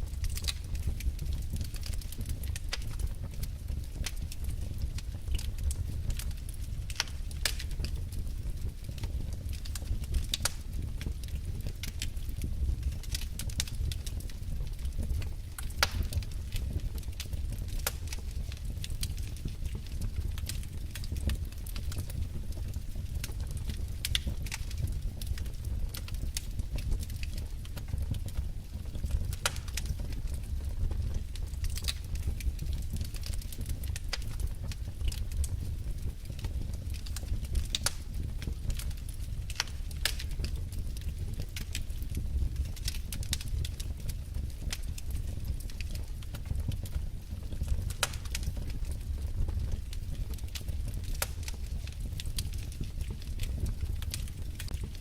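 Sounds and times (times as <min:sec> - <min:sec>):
fire crackles and pops: 0:00.0 - 0:55.0
low rumble of flames: 0:00.0 - 0:55.0.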